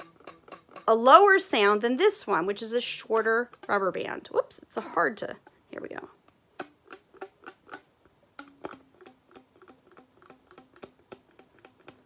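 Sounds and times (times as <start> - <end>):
rubber bands twanging: 0.0 - 5.6, 6.3 - 12.0.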